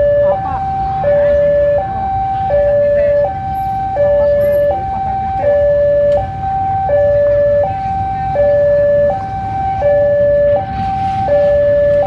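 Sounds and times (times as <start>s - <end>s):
diesel locomotive rumbling: 0.0s - 12.0s
level-crossing two-tone alarm: 0.0s - 12.0s.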